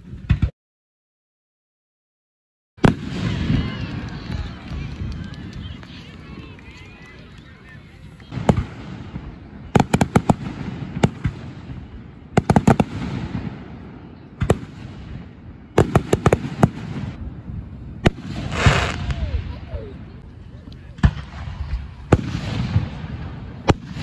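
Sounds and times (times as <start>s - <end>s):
fireworks bangs: 2.8s - 24.0s.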